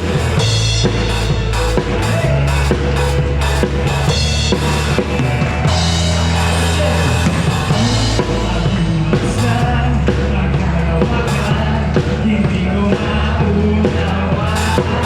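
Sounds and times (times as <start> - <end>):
drum kit playing: 0.0 - 15.0
live band playing loudly: 0.0 - 15.0
low bass notes: 0.0 - 15.0.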